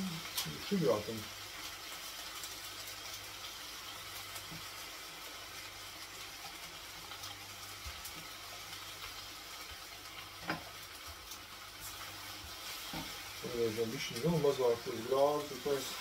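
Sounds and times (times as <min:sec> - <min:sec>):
pasta sizzling in a frying pan: 0:00.0 - 0:16.0.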